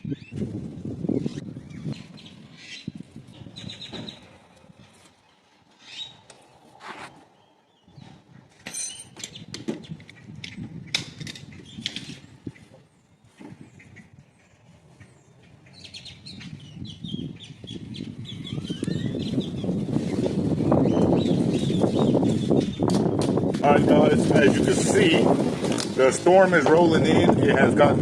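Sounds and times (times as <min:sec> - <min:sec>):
gusty wind on microphone: 0:00.0 - 0:28.0.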